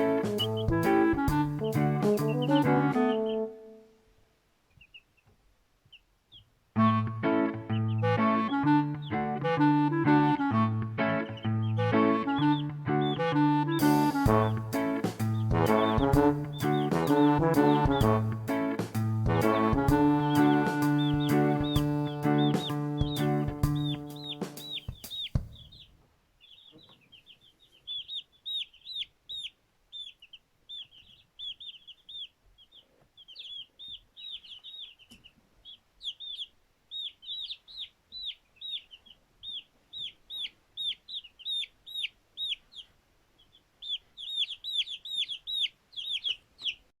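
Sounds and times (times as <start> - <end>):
chicks peeping: 0.0 - 3.6, 4.7 - 46.9.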